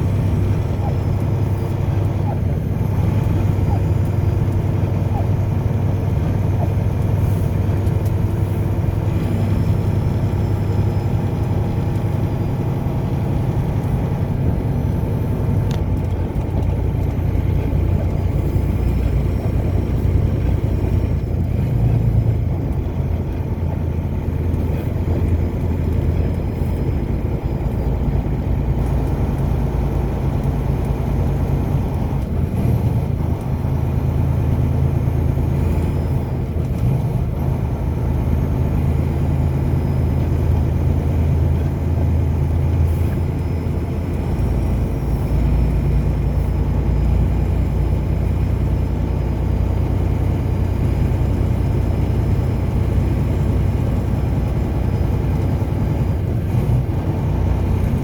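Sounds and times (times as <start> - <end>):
car engine hum: 0.0 - 58.0.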